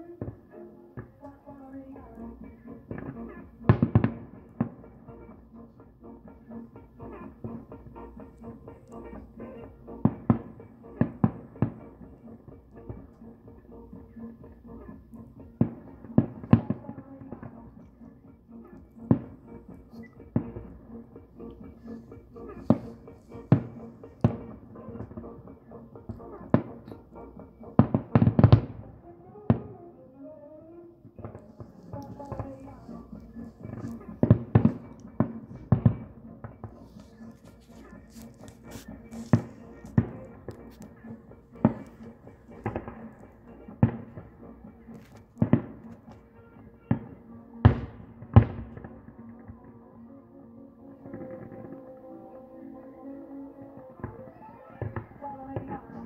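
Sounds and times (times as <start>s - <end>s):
fireworks bursting: 0.0s - 29.9s, 31.0s - 50.1s, 50.8s - 52.9s, 53.6s - 56.0s
music playing: 0.0s - 56.0s.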